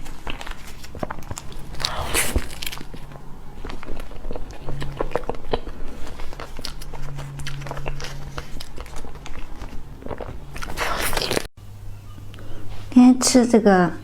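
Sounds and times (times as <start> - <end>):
chewing with mouth clicks: 0.0 - 11.5
low hum: 0.0 - 13.0.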